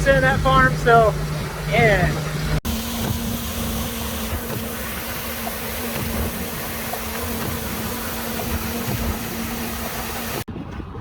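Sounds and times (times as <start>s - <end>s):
grain auger machinery drone: 0.0s - 10.5s
steady hum: 0.0s - 10.5s.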